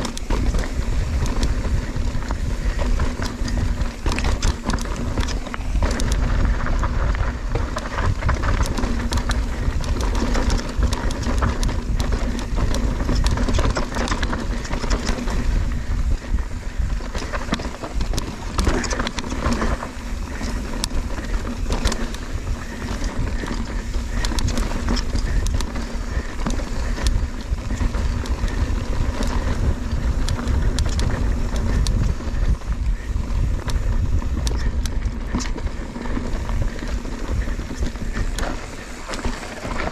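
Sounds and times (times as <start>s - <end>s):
bike rattling and clattering: 0.0s - 39.9s
wind buffeting microphone: 0.0s - 39.9s.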